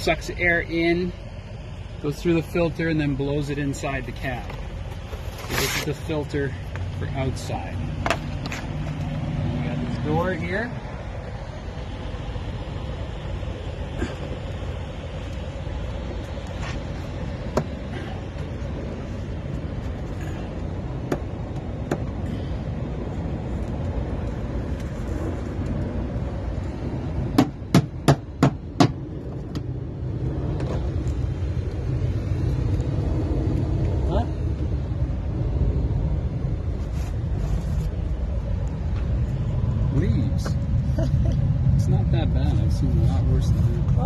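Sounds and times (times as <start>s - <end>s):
low rumble: 0.0s - 44.0s.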